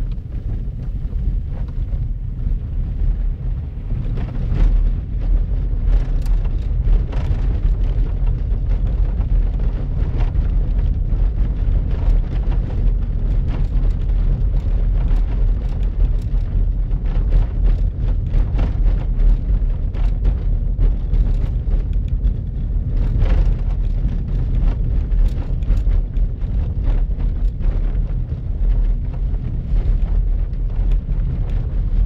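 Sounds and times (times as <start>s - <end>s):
engine and tyres rumble: 0.0s - 32.0s.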